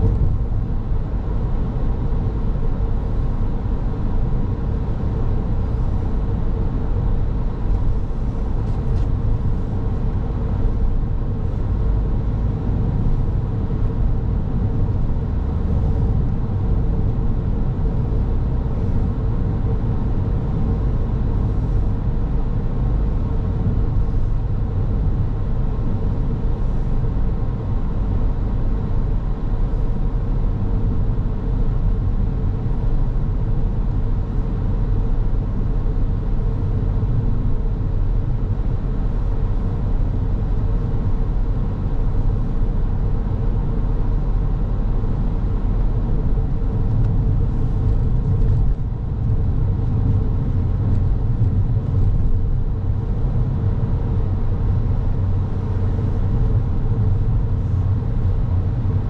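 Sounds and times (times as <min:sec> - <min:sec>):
car road and engine noise: 0:00.0 - 0:59.0
faint steady hum: 0:00.0 - 0:59.0.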